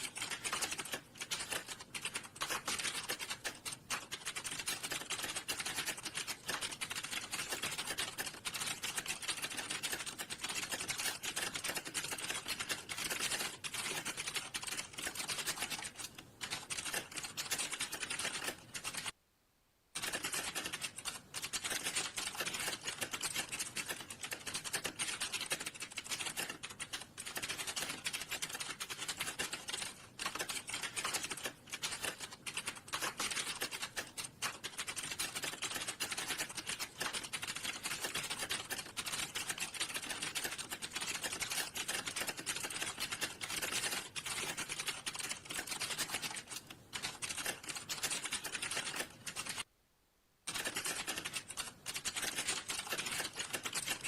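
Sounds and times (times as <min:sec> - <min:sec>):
typing on computer keyboard: 0:00.0 - 0:19.2, 0:20.0 - 0:49.7, 0:50.5 - 0:54.0.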